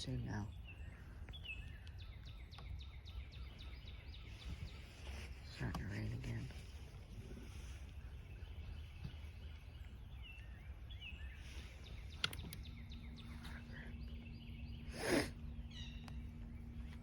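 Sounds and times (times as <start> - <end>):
low steady rumble: 0.0 - 17.0
small birds chirping: 0.0 - 17.0
steady low hum: 0.0 - 17.0.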